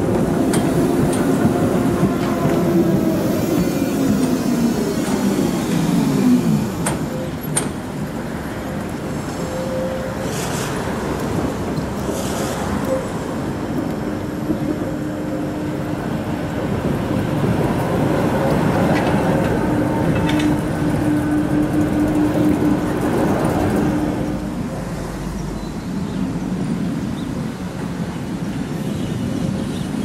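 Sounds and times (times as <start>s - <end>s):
tram wheels rumbling on rail: 0.0s - 30.0s.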